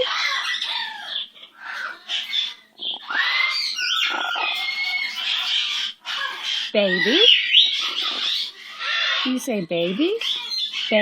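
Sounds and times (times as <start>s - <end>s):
parrot chattering and squawking: 0.0s - 11.0s.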